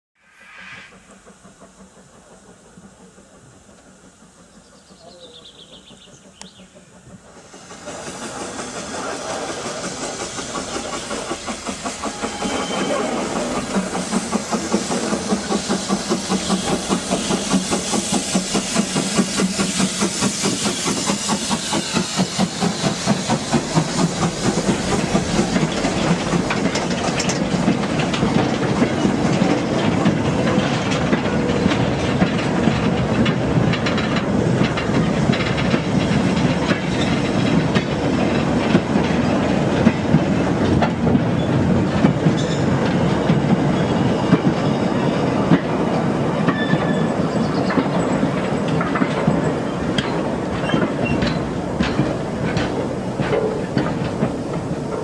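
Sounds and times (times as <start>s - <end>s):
train wheels clattering over rail joints: 5.4s - 55.0s.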